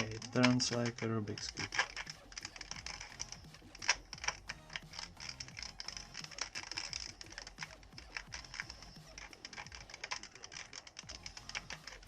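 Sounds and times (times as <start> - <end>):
plastic cube puzzle clicking: 0.0 - 12.0.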